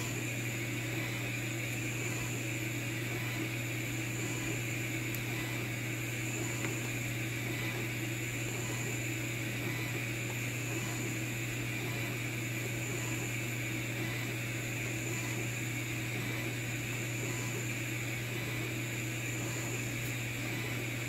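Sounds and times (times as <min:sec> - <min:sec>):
laser engraver whirring: 0:00.0 - 0:21.0.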